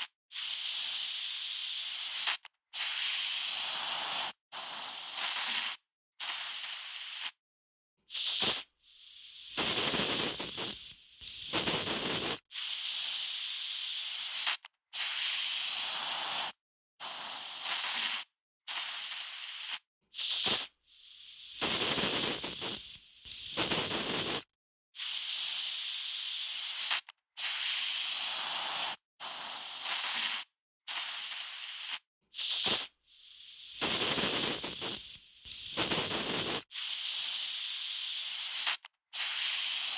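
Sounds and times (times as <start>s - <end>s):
aerosol spray can hissing: 0.3s - 7.4s, 8.1s - 39.9s.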